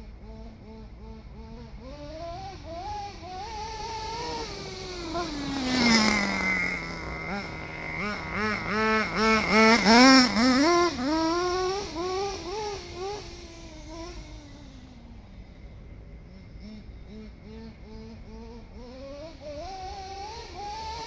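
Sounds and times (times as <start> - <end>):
rc car motor whine: 0.0 - 21.0.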